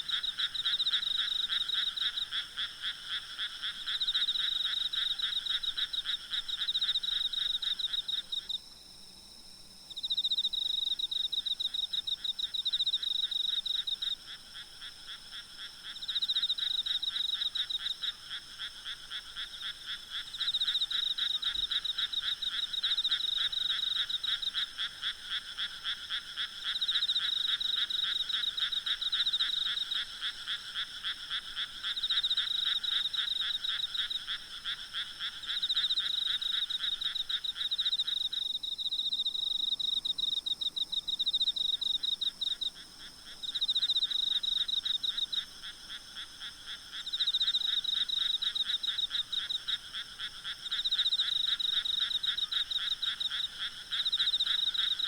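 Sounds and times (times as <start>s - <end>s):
frogs calling in pulsed trills: 0.0s - 8.6s, 9.8s - 55.0s.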